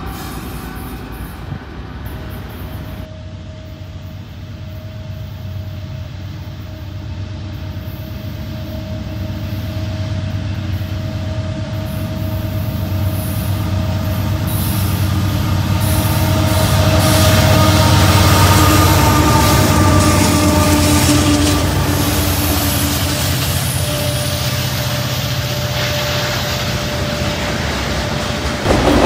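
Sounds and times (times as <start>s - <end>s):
locomotive engines rumbling: 0.0s - 29.0s.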